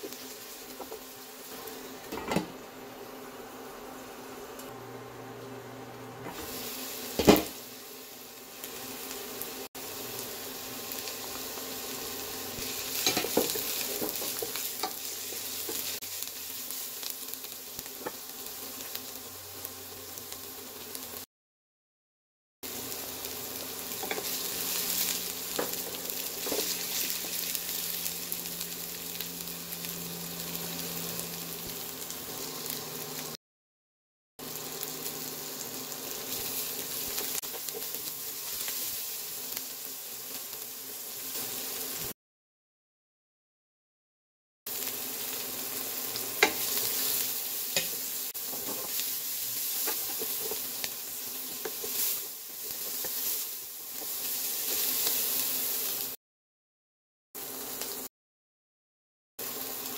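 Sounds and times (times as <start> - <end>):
onion and garlic sizzling in oil: 0.0 - 21.3, 22.6 - 33.4, 34.4 - 42.2, 44.7 - 56.2, 57.4 - 58.1, 59.4 - 59.9.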